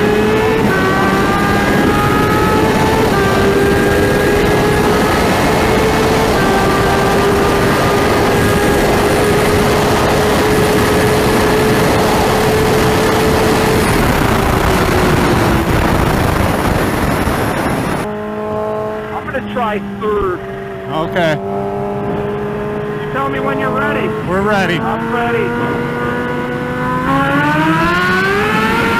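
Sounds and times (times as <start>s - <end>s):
motorbike engine running: 0.0s - 26.6s
wind rushing: 0.0s - 28.9s.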